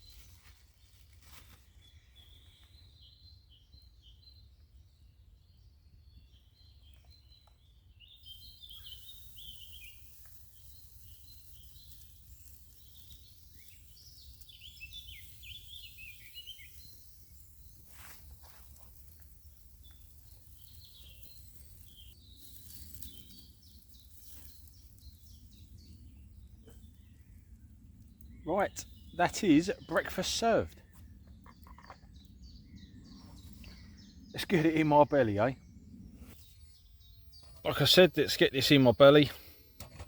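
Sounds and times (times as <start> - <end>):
small birds chirping: 0.0 - 39.8.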